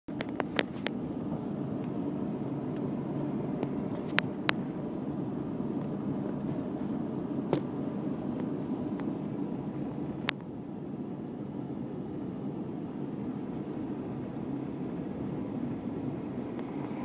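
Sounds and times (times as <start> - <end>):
road and engine noise in car: 0.1 - 17.0.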